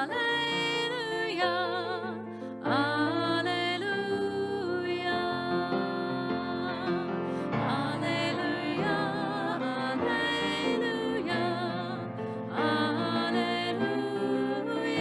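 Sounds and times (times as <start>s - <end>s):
slow gentle church music: 0.0s - 15.0s.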